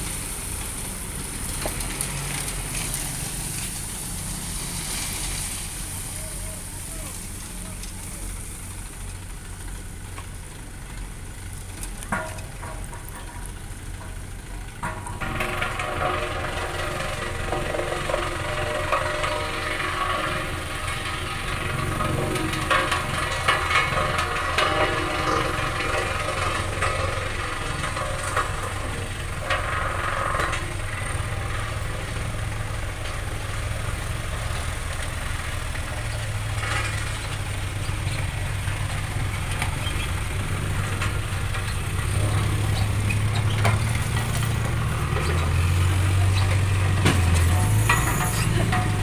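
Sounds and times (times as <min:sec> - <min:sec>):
diesel truck engine running: 0:00.0 - 0:49.0.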